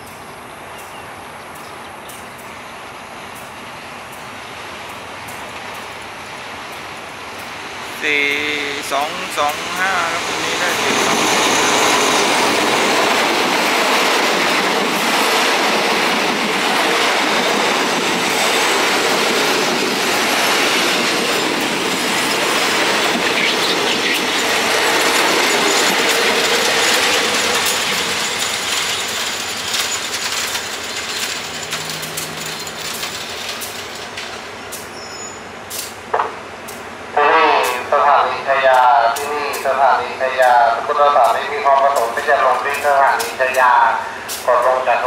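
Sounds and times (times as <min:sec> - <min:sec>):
train rolling past: 0:00.0 - 0:45.0.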